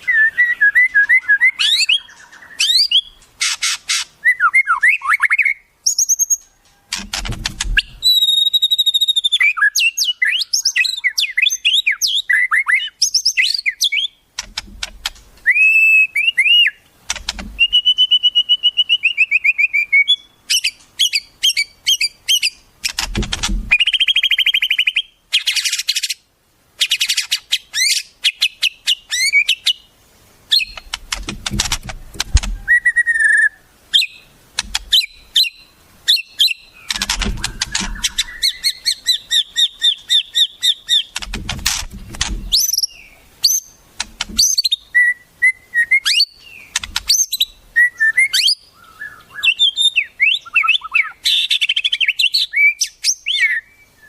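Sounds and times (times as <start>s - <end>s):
songbird calls and trills: 0.0s - 54.0s.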